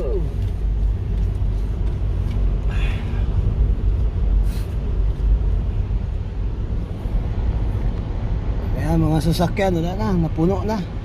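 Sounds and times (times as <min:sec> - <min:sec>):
car driving rumble inside cabin: 0:00.0 - 0:11.0.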